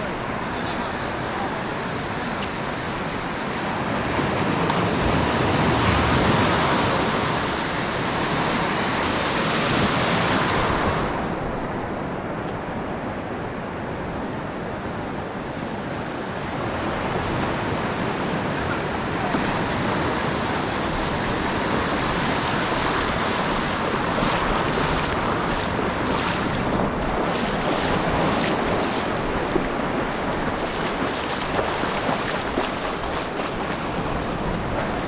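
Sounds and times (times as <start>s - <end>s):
ocean surf around legs: 0.0s - 35.0s.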